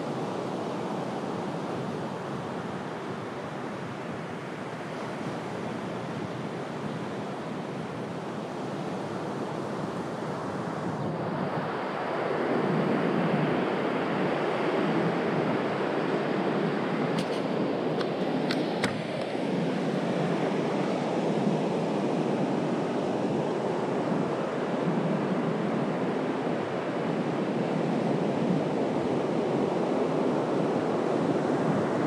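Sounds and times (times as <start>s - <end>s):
waves breaking on sandy beach: 0.0s - 32.0s.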